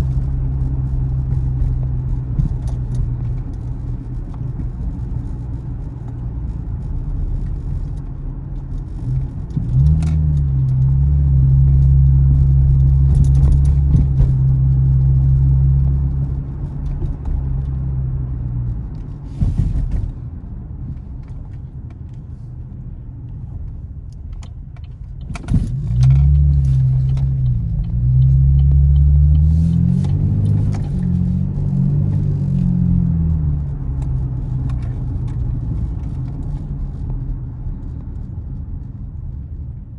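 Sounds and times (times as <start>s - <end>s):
car engine and exhaust rumble: 0.0s - 39.9s.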